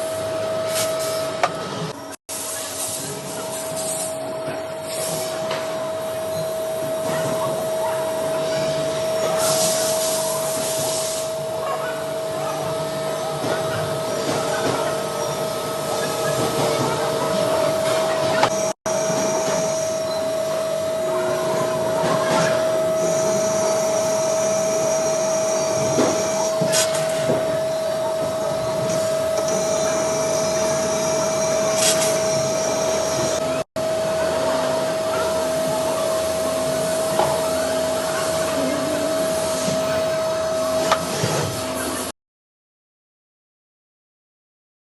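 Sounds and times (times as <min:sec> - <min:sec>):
cnc machine whine: 0:00.0 - 0:42.1.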